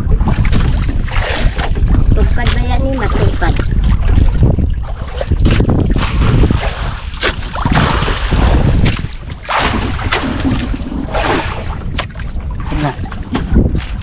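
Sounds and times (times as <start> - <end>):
splashing and handling noise: 0.0 - 14.0
water sloshing against hull: 0.0 - 14.0
wind rumbling on microphone: 0.0 - 14.0.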